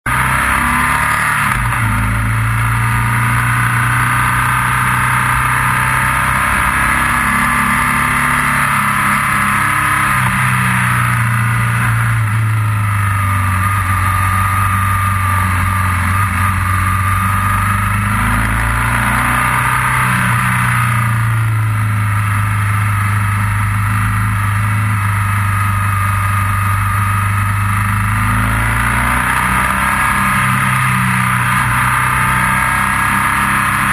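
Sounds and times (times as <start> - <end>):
motorcycle engine running: 0.0 - 33.9
wind and road noise: 0.1 - 33.9.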